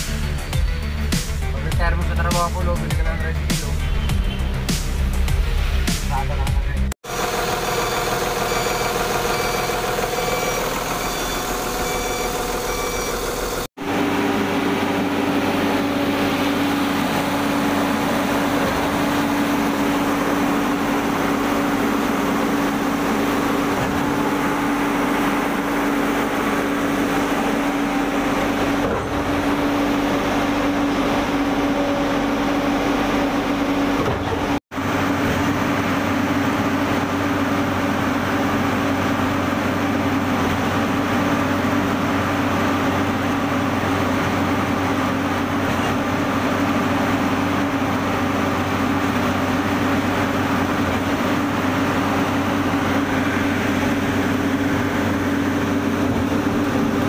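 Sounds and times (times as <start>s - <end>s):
concrete pump engine drone: 0.0s - 57.0s.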